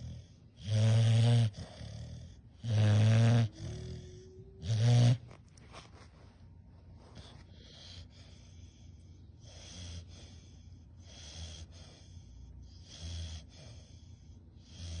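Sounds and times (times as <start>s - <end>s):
puppy snoring: 0.0s - 5.5s, 7.1s - 15.0s.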